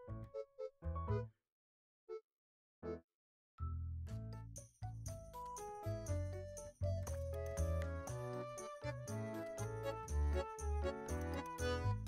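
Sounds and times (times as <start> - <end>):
background music with bass and melody: 0.0 - 1.3, 3.6 - 12.0.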